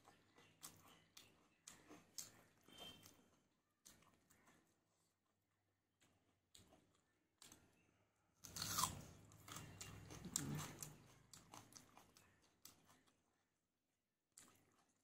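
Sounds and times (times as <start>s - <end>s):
crunching fried food: 0.0s - 15.0s.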